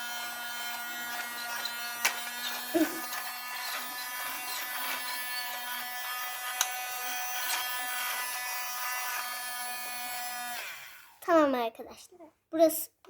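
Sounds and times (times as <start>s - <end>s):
toy vacuum motor whine: 0.0s - 11.2s.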